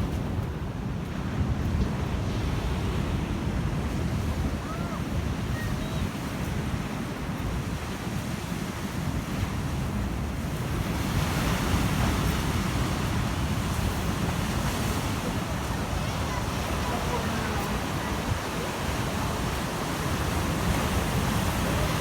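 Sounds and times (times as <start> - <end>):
sea waves breaking on beach: 0.0 - 22.0
wind buffeting microphone: 0.0 - 22.0.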